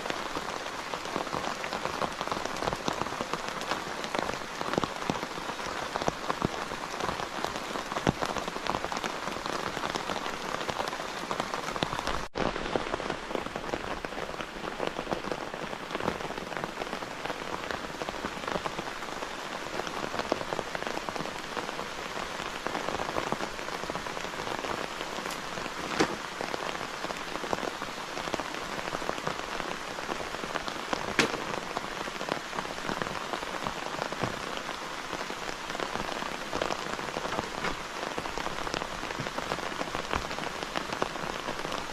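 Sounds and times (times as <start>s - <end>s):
heavy rain patter: 0.0s - 41.9s.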